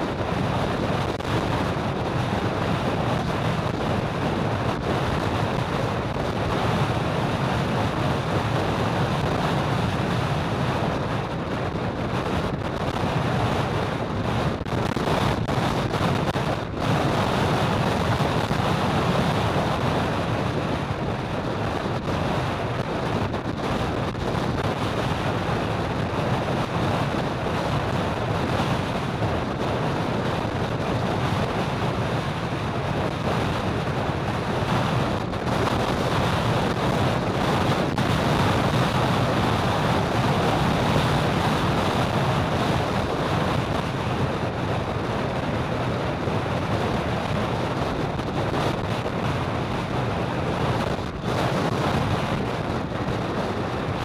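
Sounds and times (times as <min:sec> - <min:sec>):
road traffic noise: 0:00.0 - 0:54.0
wind rushing on microphone: 0:00.0 - 0:54.0.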